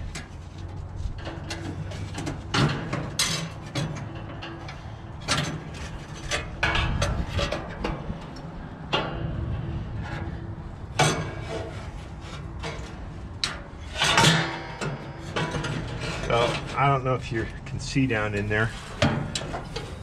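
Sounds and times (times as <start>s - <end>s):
metal parts knocking and scraping: 0.0s - 17.6s, 18.4s - 20.0s.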